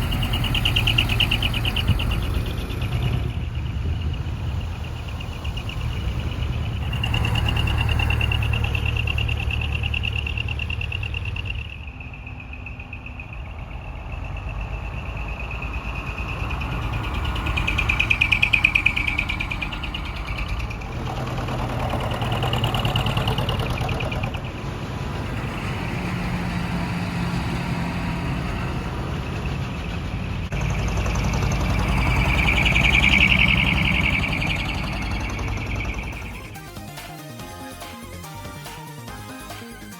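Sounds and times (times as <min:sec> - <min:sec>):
trucks driving past: 0:00.0 - 0:39.9.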